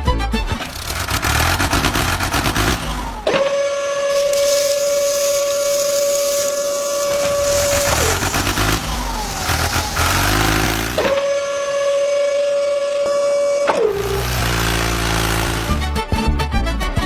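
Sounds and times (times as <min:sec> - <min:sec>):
small electric motor whining: 0:00.5 - 0:16.0.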